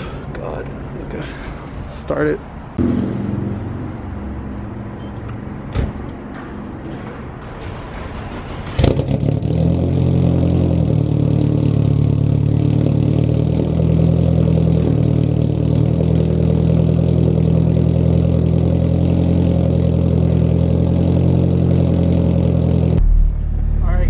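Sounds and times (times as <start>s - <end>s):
loud car engine starting and idling: 2.8s - 24.0s.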